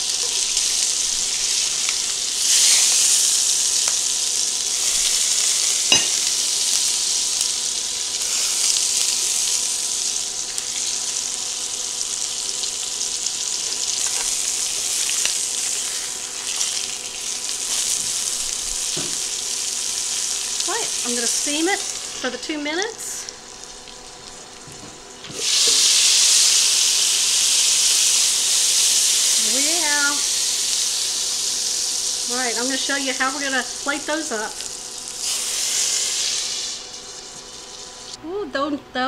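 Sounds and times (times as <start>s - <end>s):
meat sizzling in a skillet: 0.0s - 38.2s.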